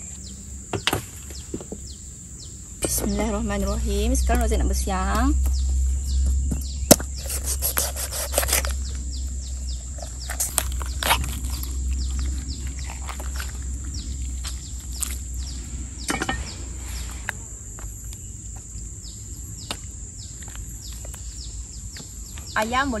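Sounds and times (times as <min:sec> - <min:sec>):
birds chirping: 0:00.0 - 0:23.0
steady high whine: 0:00.0 - 0:23.0.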